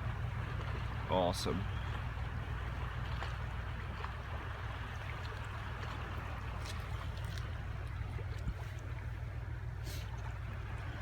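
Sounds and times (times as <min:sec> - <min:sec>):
river water over stones: 0:00.0 - 0:11.0.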